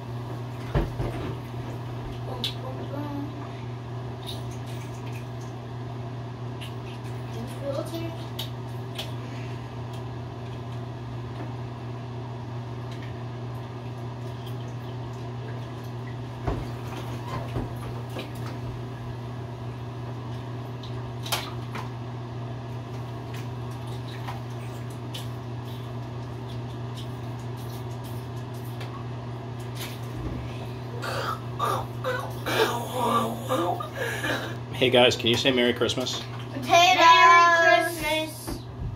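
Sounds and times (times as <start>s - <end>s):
low electric hum: 0.0s - 38.9s.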